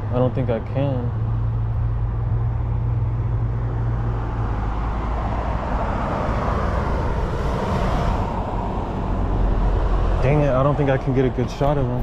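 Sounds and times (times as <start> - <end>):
steady low hum: 0.0 - 12.0
car driving past: 1.2 - 12.0.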